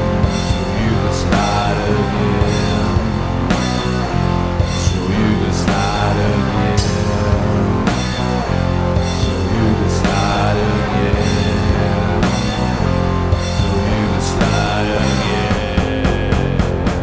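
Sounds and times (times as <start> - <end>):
instrumental rock band: 0.0 - 17.0.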